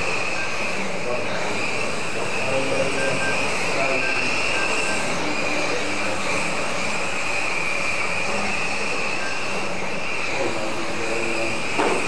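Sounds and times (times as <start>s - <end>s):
toy car motors whining: 0.0s - 12.0s.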